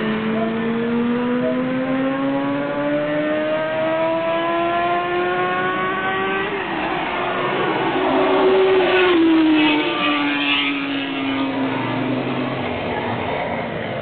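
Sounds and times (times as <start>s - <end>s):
motorcycle engine accelerating hard: 0.0s - 6.5s, 7.3s - 13.8s.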